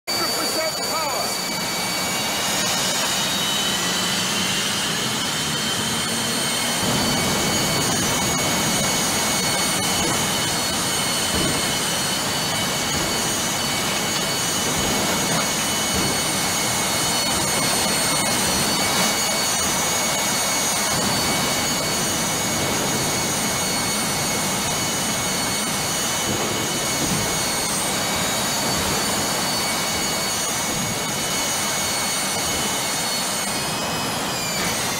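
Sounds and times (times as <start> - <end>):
high-pitched engine whine: 0.1 - 34.9
jet engine roaring: 0.1 - 34.9.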